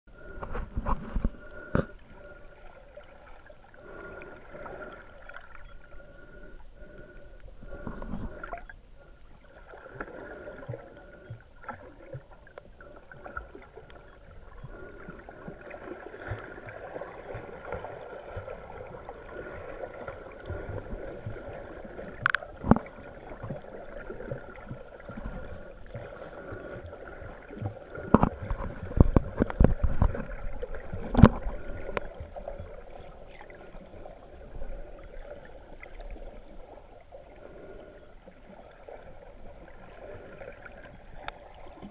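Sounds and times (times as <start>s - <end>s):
muffled underwater water wash: 0.1s - 41.9s.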